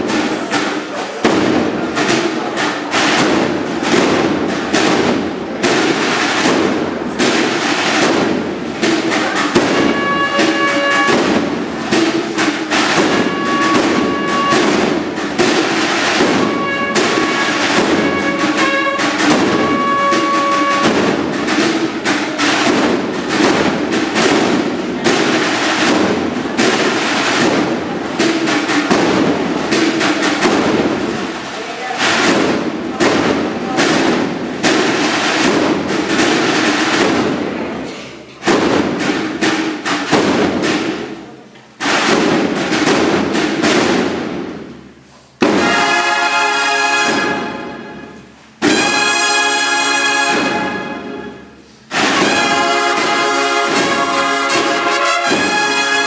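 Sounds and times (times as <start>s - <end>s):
processional band playing march: 0.0s - 37.6s, 38.4s - 44.8s, 45.4s - 56.0s
rapid snare drumming: 0.0s - 56.0s.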